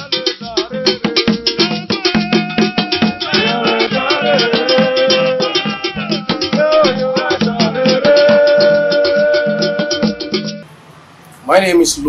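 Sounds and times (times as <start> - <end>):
music with percussion beat: 0.0 - 10.6
sliding melody line: 0.0 - 10.6.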